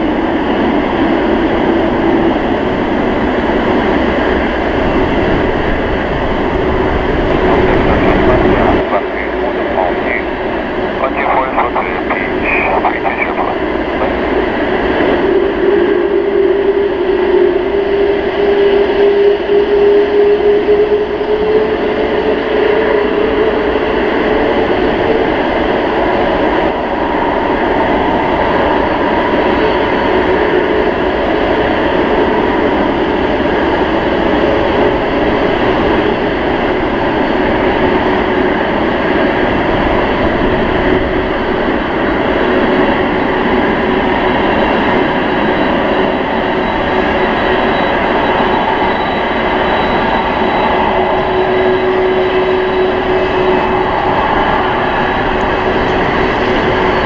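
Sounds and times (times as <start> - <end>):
jet engine whining tones: 0.0 - 57.0
jet engines rushing: 0.0 - 57.0.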